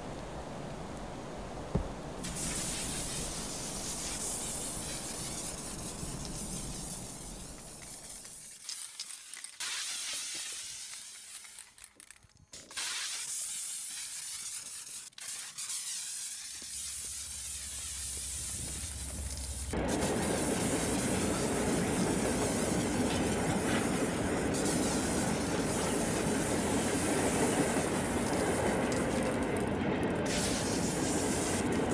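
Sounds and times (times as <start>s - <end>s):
aerosol cans hissing: 1.8s - 27.9s, 30.3s - 31.7s.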